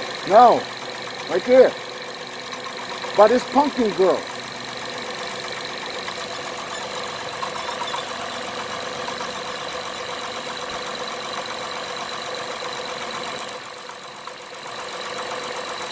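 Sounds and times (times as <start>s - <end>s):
car engine idling: 0.0s - 15.9s
rapid engine ticking: 0.0s - 15.9s.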